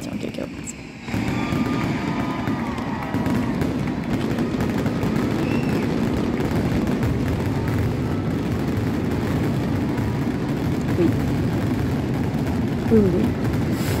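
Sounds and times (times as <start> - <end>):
fireworks barrage: 0.0 - 14.0
fireworks crackling: 0.0 - 14.0
firework whistle: 0.3 - 11.2, 13.5 - 14.0.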